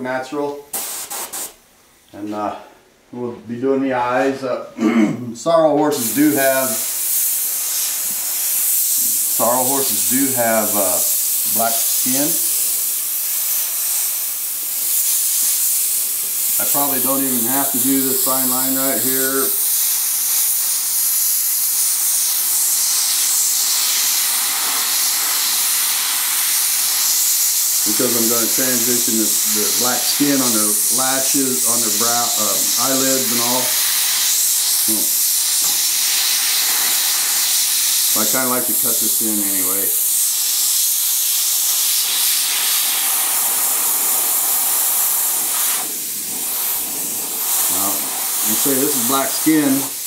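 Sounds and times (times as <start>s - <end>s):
airbrush hissing: 0.7s - 1.6s, 5.9s - 50.0s.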